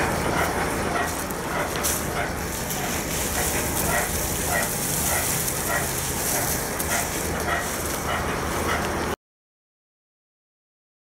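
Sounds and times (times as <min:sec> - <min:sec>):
wood chipper engine drone: 0:00.0 - 0:09.2.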